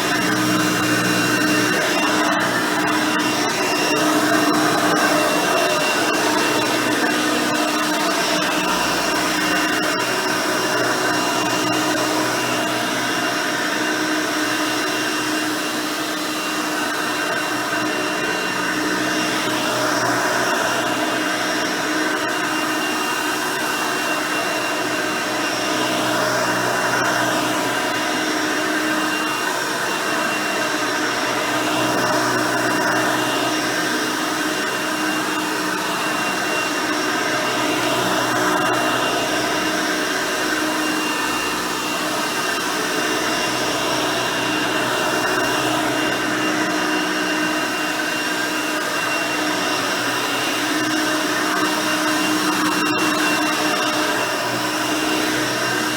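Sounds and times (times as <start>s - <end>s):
vacuum cleaner whine: 0.0s - 55.9s.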